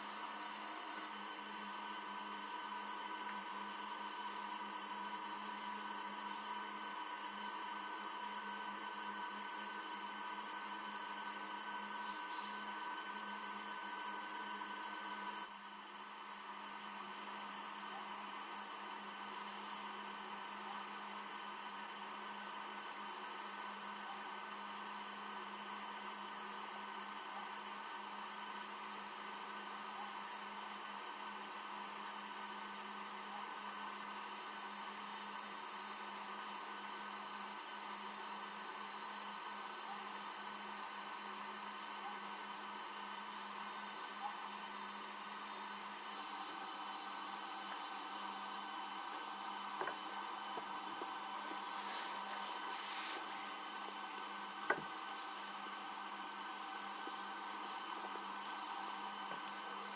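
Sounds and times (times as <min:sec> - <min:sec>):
hiss: 0:00.0 - 0:59.9.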